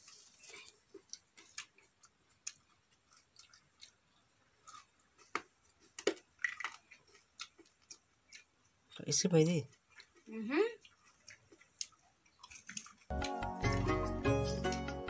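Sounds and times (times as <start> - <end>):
quiet chewing: 0.0 - 13.8.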